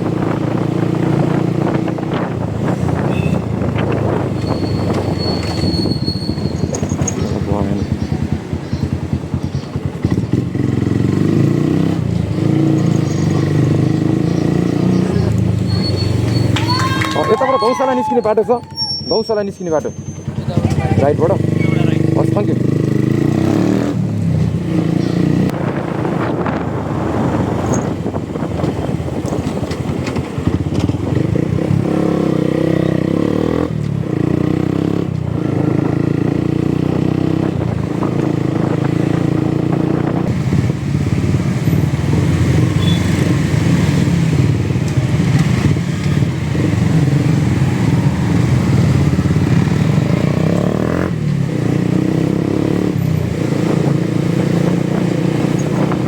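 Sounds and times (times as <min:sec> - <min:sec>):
motorcycle engine running: 0:00.0 - 0:16.6, 0:19.3 - 0:56.0.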